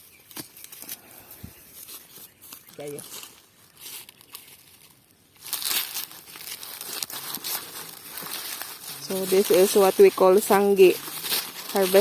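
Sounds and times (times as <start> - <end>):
dry corn plants rustling: 0.0 - 12.0.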